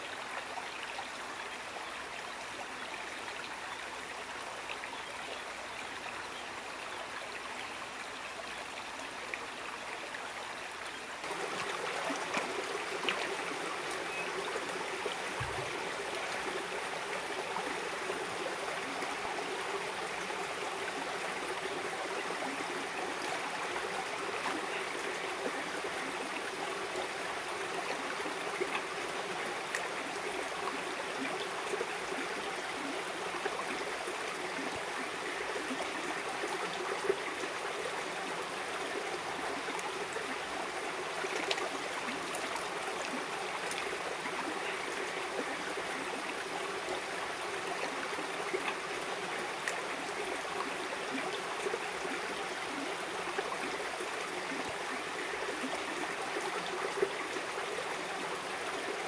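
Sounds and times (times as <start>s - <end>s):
river rushing and burbling: 10.5s - 59.0s.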